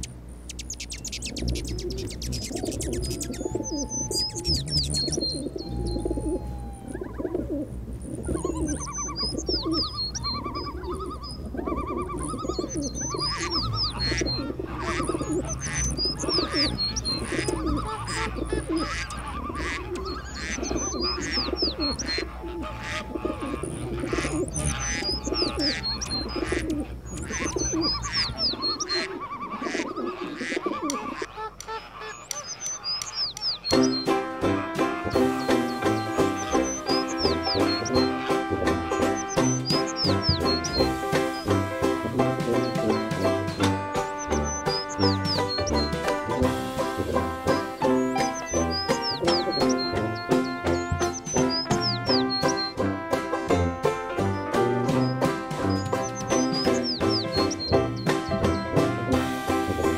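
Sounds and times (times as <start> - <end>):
bird chorus: 0.0 - 59.9.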